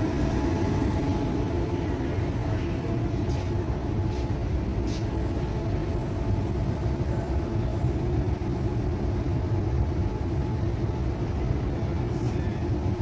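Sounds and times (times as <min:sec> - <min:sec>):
train car humming: 0:00.0 - 0:13.0.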